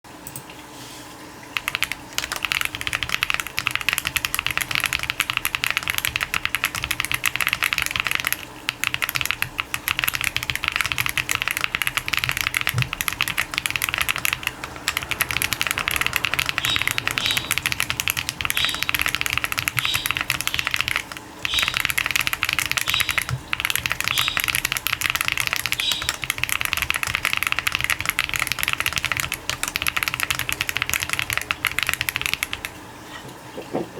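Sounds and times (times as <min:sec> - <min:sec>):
fast typing on mechanical keyboard: 0:01.5 - 0:32.8.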